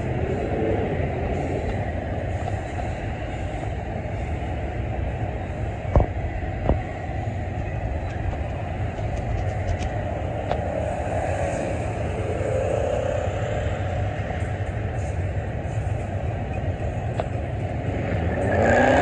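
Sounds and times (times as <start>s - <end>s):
freight train cars rumbling: 0.0s - 19.0s.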